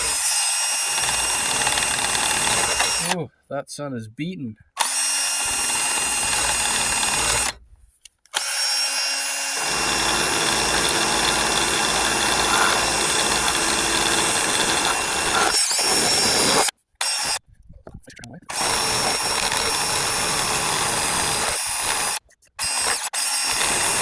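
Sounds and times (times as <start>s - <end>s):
electric drill stripping paint: 0.0s - 3.2s, 4.8s - 7.6s, 8.4s - 17.4s, 18.5s - 24.0s.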